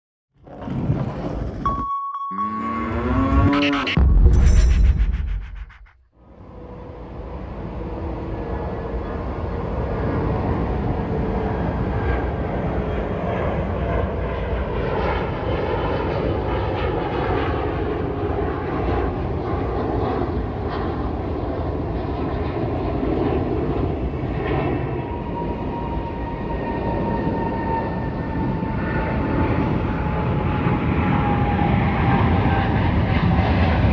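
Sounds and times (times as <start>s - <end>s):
jet engines rumbling: 3.3s - 33.9s.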